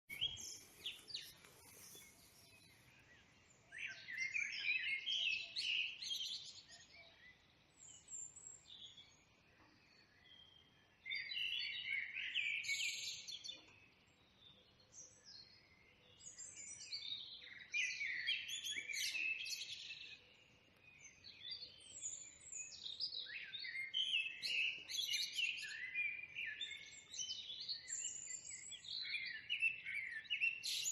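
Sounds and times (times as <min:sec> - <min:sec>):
songbirds chirping and singing: 0:00.1 - 0:30.9.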